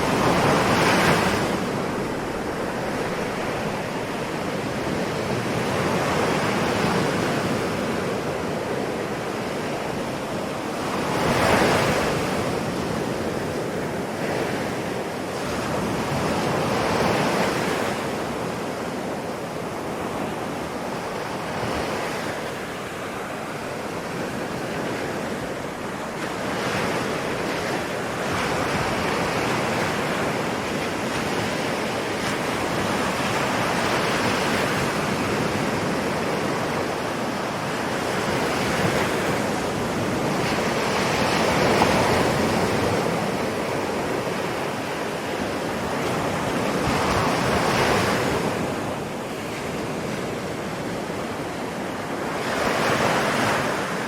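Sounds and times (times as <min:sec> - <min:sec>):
ocean waves breaking on shore: 0:00.0 - 0:54.0
wind: 0:00.0 - 0:54.0.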